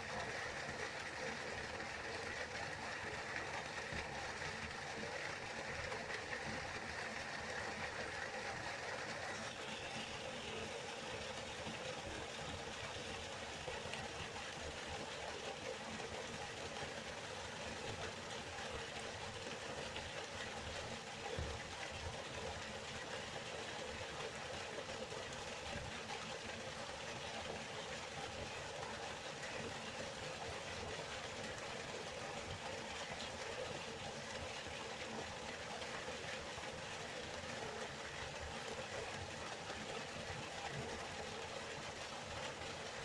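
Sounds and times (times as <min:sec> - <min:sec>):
river water flowing: 0:00.0 - 0:43.0.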